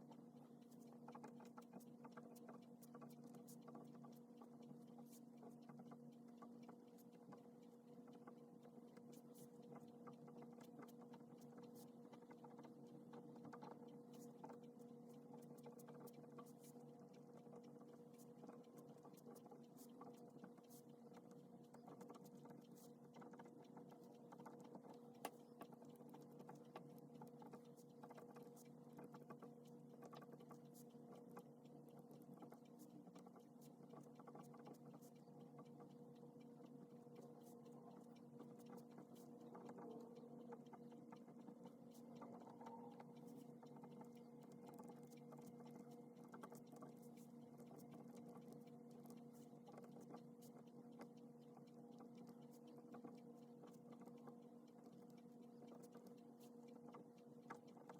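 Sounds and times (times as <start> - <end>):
low electrical hum: 0.0 - 57.9.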